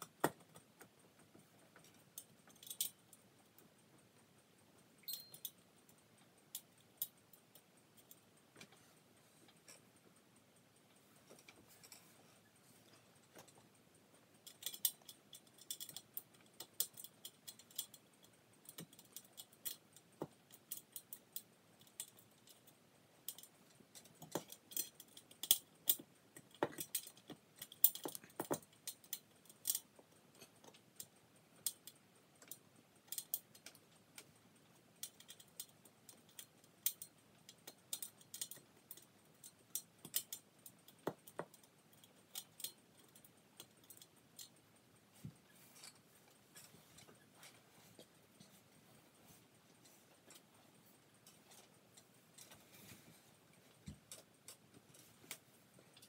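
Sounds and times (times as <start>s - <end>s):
small metallic clicks and rattles: 0.0s - 56.0s.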